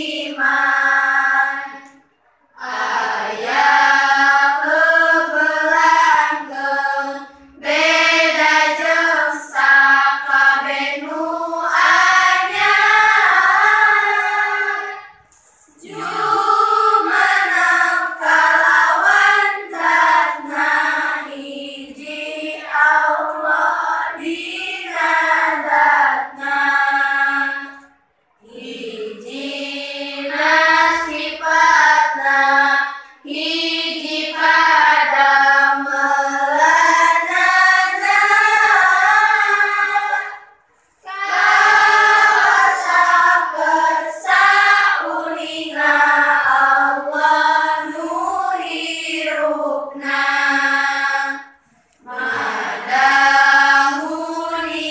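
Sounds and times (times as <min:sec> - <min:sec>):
girls chanting in unison: 0:00.0 - 0:54.9.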